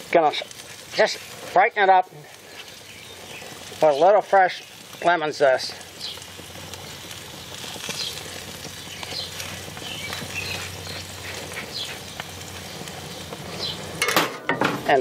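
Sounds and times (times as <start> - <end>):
mushrooms sizzling on a grill: 0.0 - 15.0.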